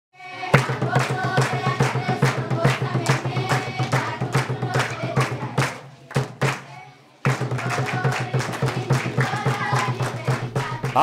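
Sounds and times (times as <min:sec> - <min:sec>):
background music with percussive beat: 0:00.5 - 0:06.6, 0:07.3 - 0:11.0.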